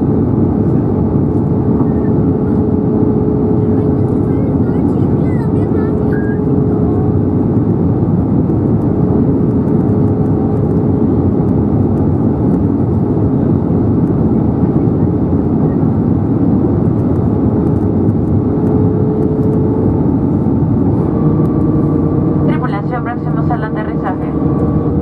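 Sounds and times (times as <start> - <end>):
airflow rush in aircraft cabin: 0.0 - 25.0
jet engines: 0.0 - 25.0
steady hum: 0.0 - 25.0.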